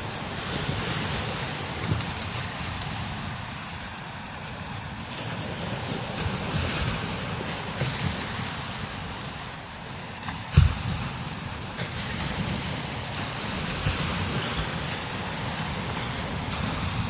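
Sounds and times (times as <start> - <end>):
strong wind rushing hiss: 0.0 - 17.0
wind buffeting microphone: 0.0 - 17.0.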